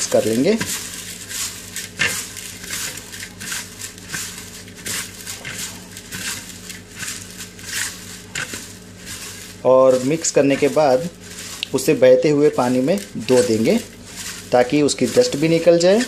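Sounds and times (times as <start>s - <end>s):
leaves rustling in a bowl: 0.0s - 16.0s.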